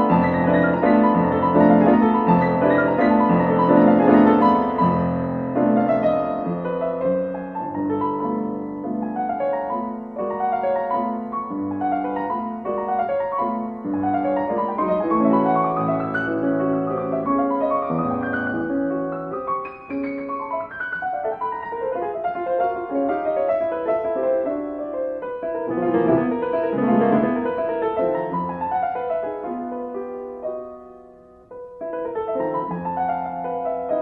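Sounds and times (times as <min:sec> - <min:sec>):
solo piano melody: 0:00.0 - 0:34.0.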